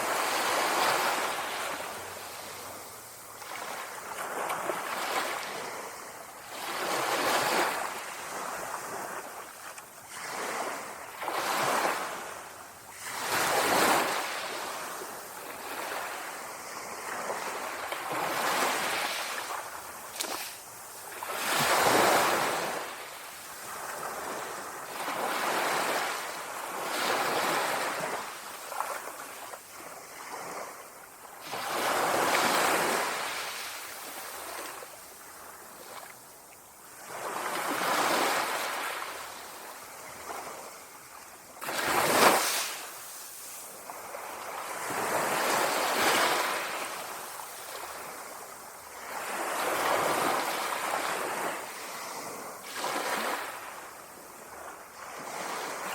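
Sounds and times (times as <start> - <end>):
small waves lapping on shore: 0.0 - 55.9.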